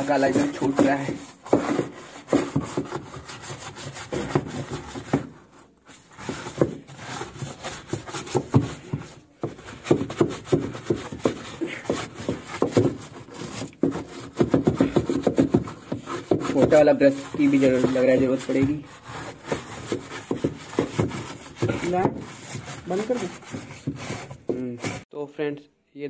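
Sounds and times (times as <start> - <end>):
brush scrubbing wet tub: 0.0 - 25.1.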